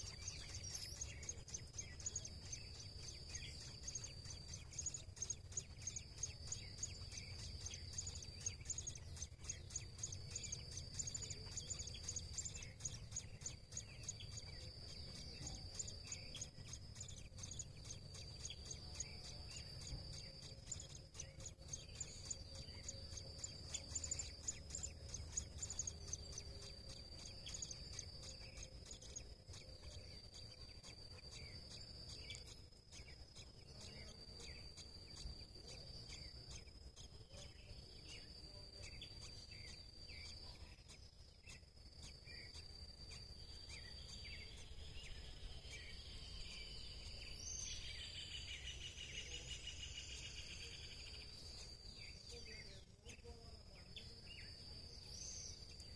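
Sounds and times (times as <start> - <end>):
high insect trill: 0.0 - 55.9.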